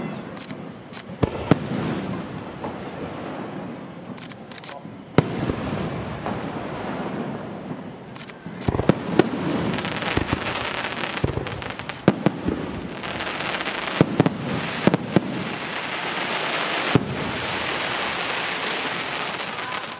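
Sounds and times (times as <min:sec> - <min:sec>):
crackling hiss of burning fireworks: 0:00.0 - 0:19.9
fireworks bangs: 0:00.0 - 0:19.9.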